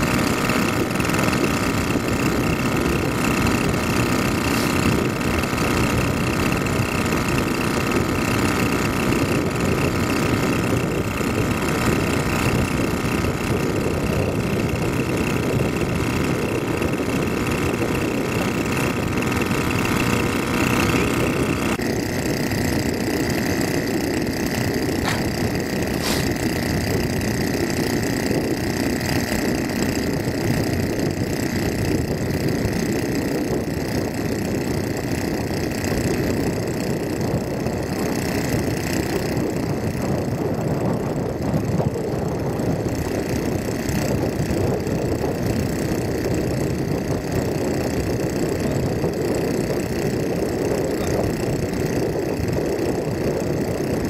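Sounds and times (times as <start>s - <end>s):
rice transplanter engine running: 0.0s - 54.0s.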